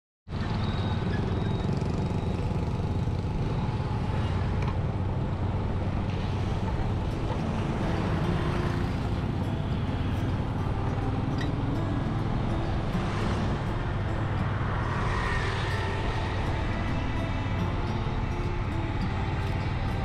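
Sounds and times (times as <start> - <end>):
traffic and road noise: 0.3 - 20.0
vehicle engine running: 0.3 - 20.0.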